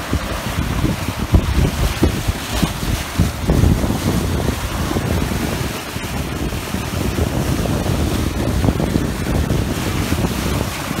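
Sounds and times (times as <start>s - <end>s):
water hissing along hull: 0.0s - 11.0s
wind buffeting microphone: 0.0s - 11.0s.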